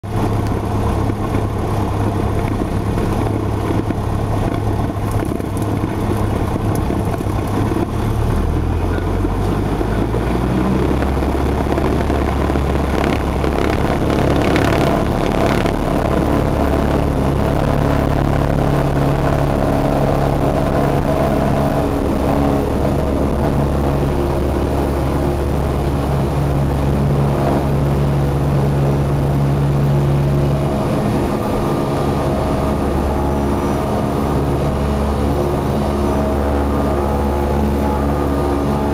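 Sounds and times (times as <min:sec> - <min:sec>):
light airplane engine and propeller: 0:00.0 - 0:38.9.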